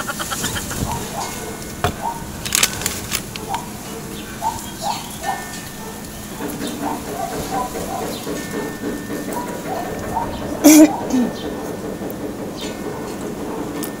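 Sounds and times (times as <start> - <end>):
bird chirps: 0.0 - 13.1
construction hammering: 0.0 - 14.0.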